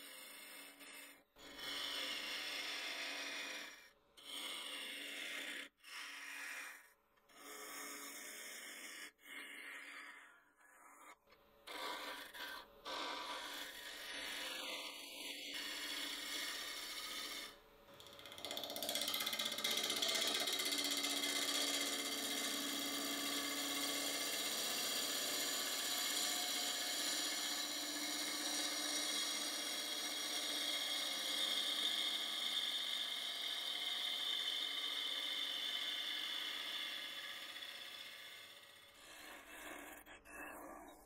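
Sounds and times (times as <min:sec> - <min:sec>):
lathe gouge rasping on wood: 0:00.1 - 0:05.6, 0:11.7 - 0:40.0.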